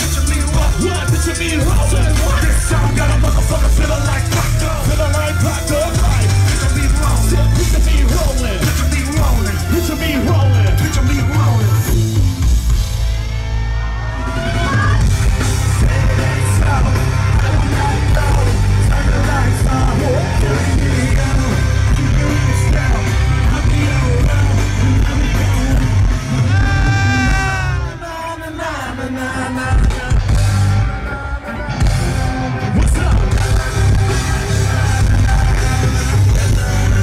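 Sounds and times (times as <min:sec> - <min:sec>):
music with pounding bass: 0:00.0 - 0:37.0
yelled sung vocals: 0:00.0 - 0:37.0.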